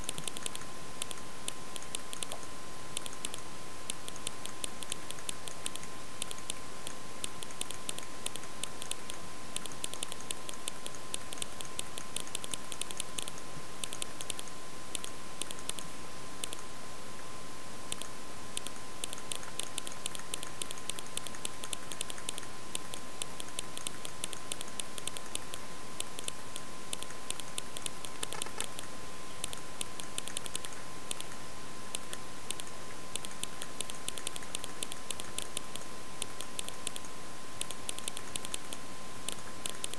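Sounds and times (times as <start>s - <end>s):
rapid irregular clicking: 0.0s - 16.6s, 17.9s - 39.9s.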